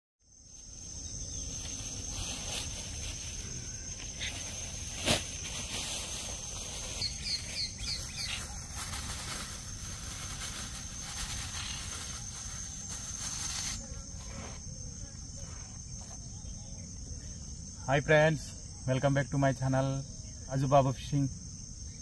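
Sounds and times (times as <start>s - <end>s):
high-pitched insect trill: 0.2s - 22.0s.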